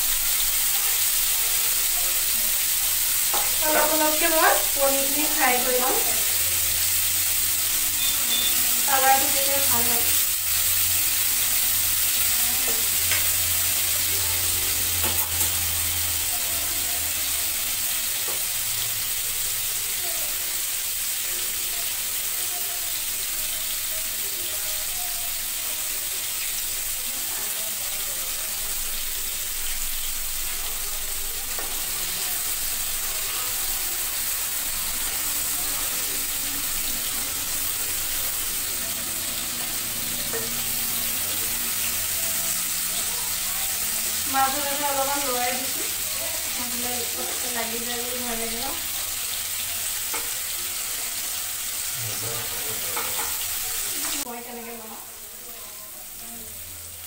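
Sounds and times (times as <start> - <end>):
paneer sizzling in hot oil: 0.0 - 57.0.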